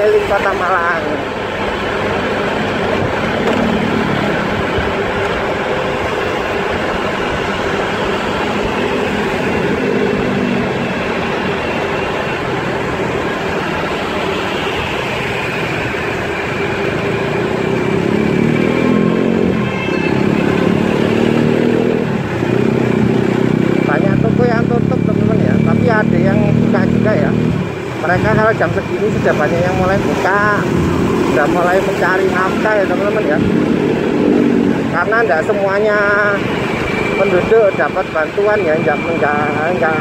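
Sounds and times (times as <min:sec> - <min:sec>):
road noise: 0:00.0 - 0:40.0
vehicle engines running: 0:00.0 - 0:40.0.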